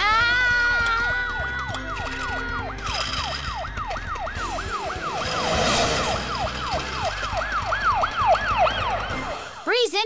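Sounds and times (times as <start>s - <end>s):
cartoon ambulance siren: 0.1s - 9.7s.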